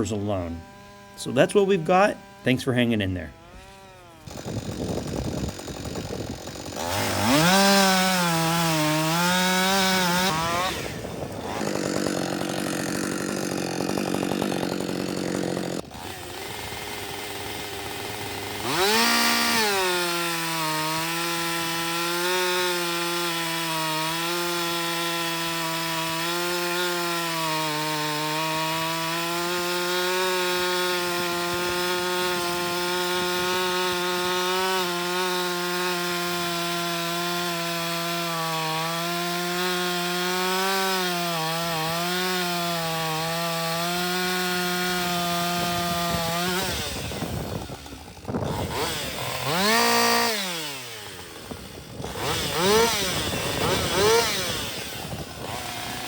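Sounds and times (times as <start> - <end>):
chainsaw cutting through wood: 0.0 - 56.0.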